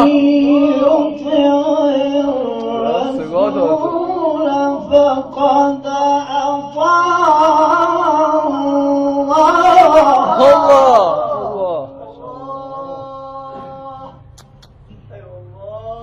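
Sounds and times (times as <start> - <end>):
person chanting recitation: 0.0 - 16.0.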